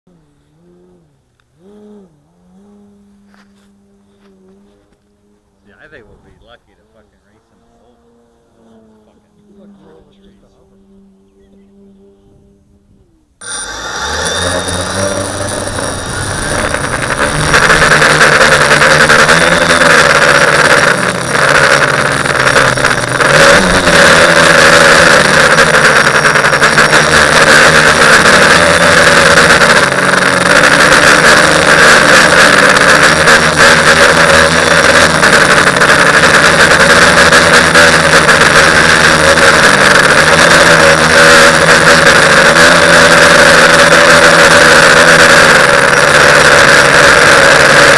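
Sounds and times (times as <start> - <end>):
quadcopter propellers buzzing: 0.1 - 47.9.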